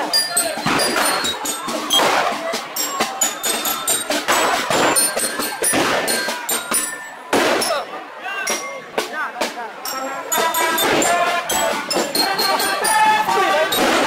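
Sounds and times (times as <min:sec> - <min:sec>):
band music: 0:00.0 - 0:07.9, 0:08.5 - 0:14.0
sharp percussive hits: 0:00.0 - 0:09.1, 0:09.8 - 0:14.0
crowd voices: 0:00.0 - 0:14.0.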